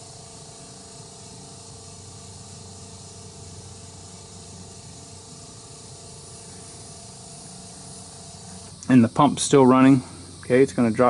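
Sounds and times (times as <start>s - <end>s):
electric fuel pump humming: 0.0s - 11.0s.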